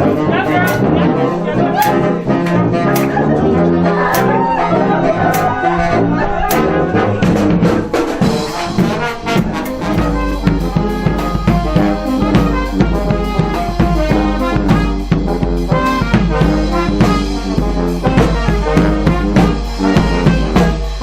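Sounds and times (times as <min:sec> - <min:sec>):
steady drum beat: 0:00.0 - 0:04.4, 0:06.5 - 0:21.0
low bass line: 0:00.0 - 0:21.0
trombones and trumpets: 0:00.0 - 0:21.0.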